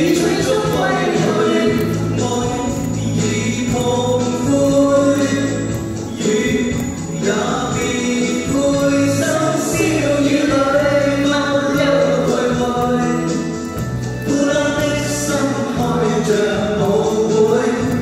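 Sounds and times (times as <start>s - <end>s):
people singing pop song: 0.0s - 18.0s
recorded backing music: 0.0s - 18.0s.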